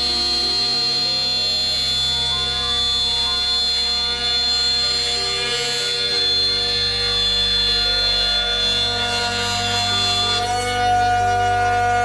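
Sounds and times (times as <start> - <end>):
router spindle whining: 0.0 - 12.0
slow background music chords: 0.0 - 12.0.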